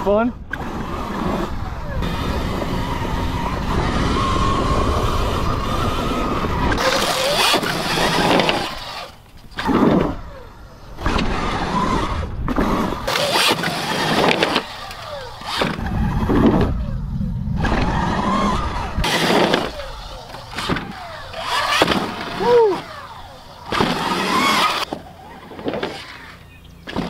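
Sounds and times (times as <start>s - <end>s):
wind rush: 0.0s - 8.9s, 9.5s - 24.8s
electric motor whine: 0.0s - 27.0s
tyre noise on dirt: 0.5s - 27.0s.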